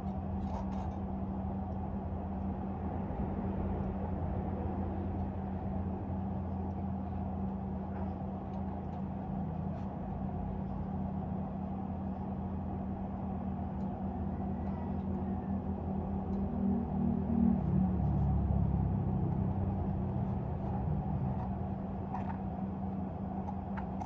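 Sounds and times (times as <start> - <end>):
low humming rumble: 0.0 - 24.0.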